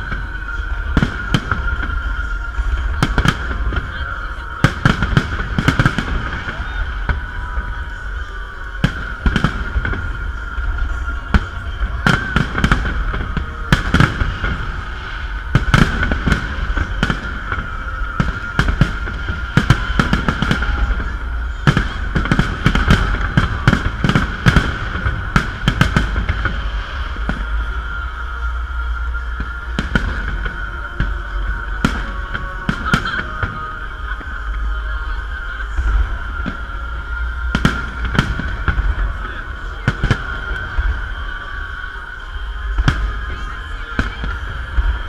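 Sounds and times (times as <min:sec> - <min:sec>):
fireworks shells bursting: 0:00.0 - 0:45.0.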